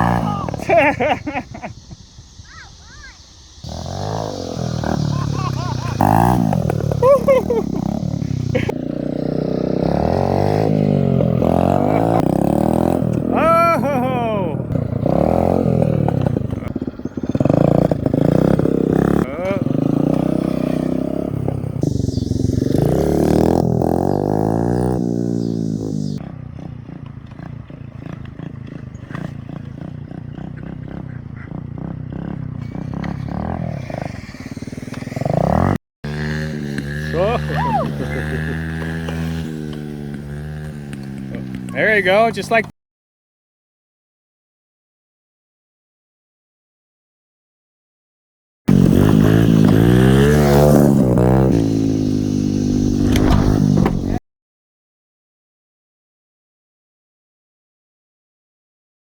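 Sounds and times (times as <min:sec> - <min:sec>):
pit bike engine revving: 0:00.0 - 0:42.7, 0:48.7 - 0:54.2.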